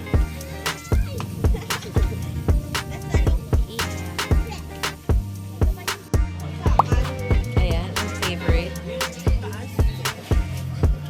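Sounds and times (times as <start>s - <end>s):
hip-hop music with drum beat: 0.0s - 11.0s.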